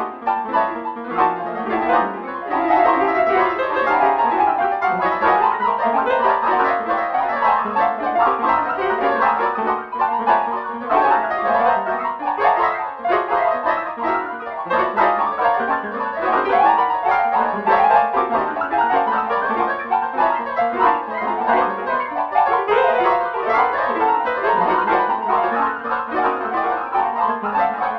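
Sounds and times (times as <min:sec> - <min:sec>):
synthesized keyboard melody: 0:00.0 - 0:27.9.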